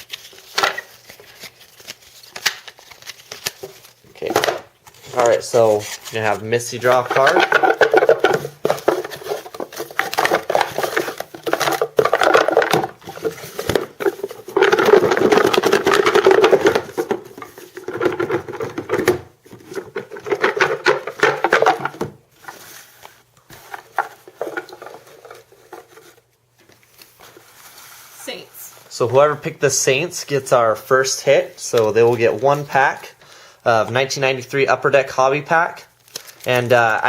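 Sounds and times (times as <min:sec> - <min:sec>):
cards rustling: 0:00.0 - 0:28.4, 0:33.8 - 0:37.0.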